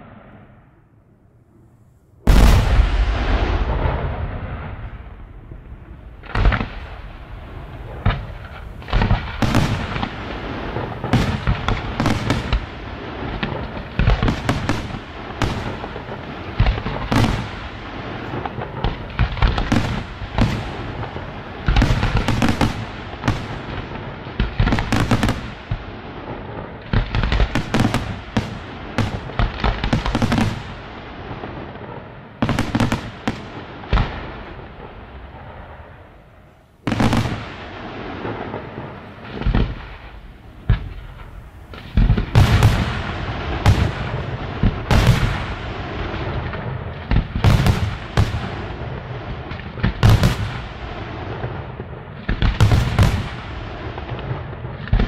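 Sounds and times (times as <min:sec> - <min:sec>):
fireworks bursting with loud bangs: 0:00.0 - 0:00.8, 0:01.7 - 0:55.0.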